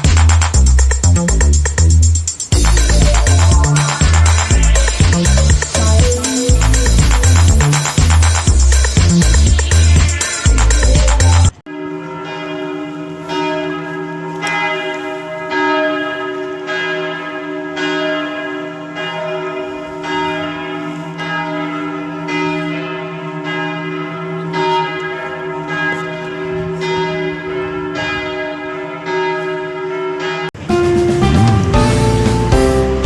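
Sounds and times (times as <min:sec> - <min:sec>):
church bells ringing: 0:00.0 - 0:10.9, 0:11.5 - 0:33.0.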